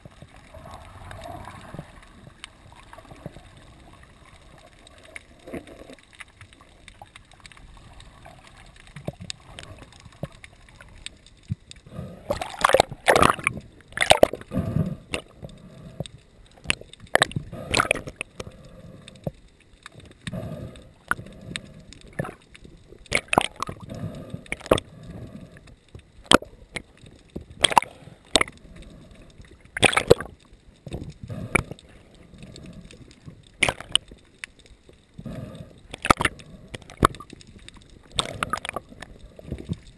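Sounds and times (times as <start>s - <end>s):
water sloshing and splashing: 0.0s - 18.6s, 21.0s - 25.1s, 25.7s - 35.2s, 35.8s - 39.9s.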